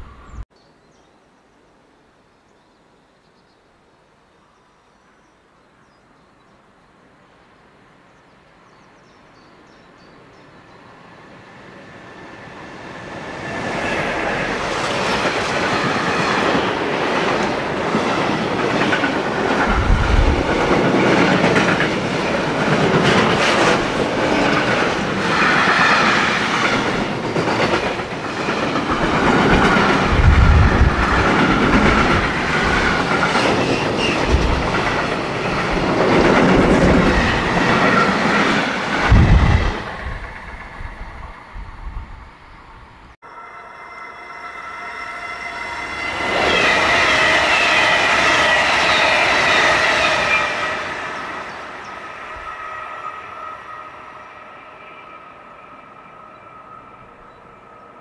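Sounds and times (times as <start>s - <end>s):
freight train passing: 0.0s - 0.4s, 9.5s - 58.0s.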